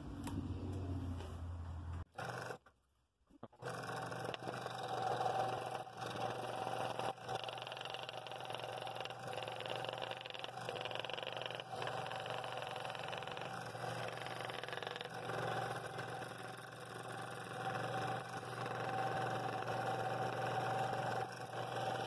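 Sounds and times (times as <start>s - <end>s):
scroll saw cutting wood: 2.1s - 2.7s, 3.5s - 22.0s.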